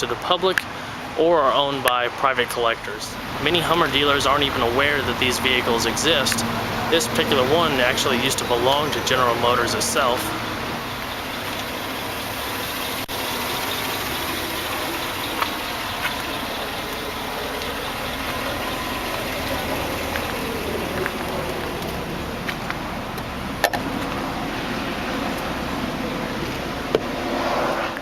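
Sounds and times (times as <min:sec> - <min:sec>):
motor vehicle engine hum: 0:00.0 - 0:28.0.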